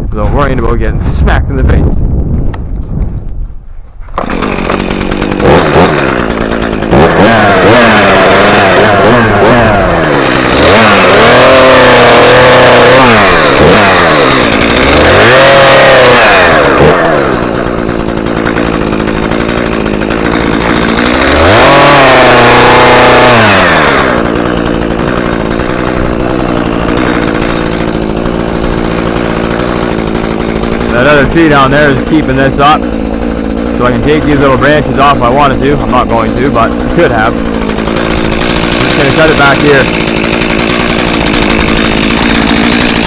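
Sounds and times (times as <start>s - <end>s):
chainsaw revving and running: 4.1s - 43.0s.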